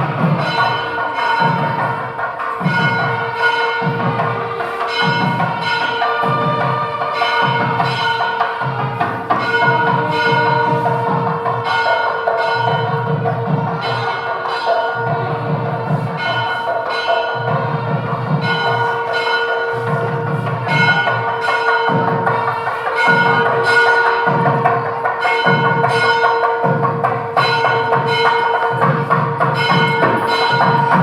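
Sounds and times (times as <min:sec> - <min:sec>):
bell-like strikes: 0:00.0 - 0:31.0.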